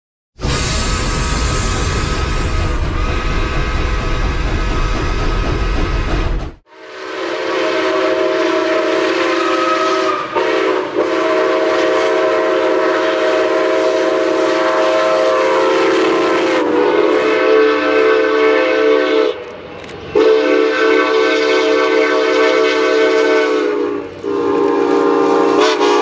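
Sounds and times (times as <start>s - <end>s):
steam locomotive whistle chords: 0.4s - 6.1s, 6.7s - 19.4s, 20.1s - 26.0s.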